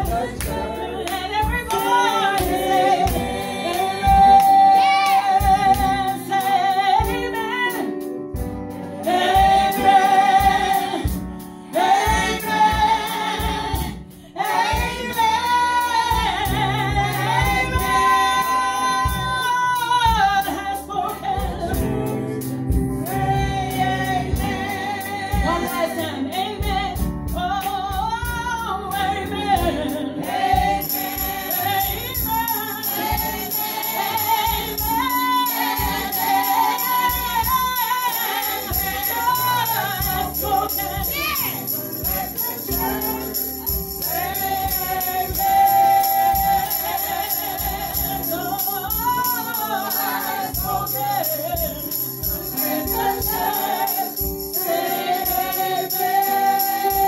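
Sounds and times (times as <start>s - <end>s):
gospel singing: 0.0s - 57.0s.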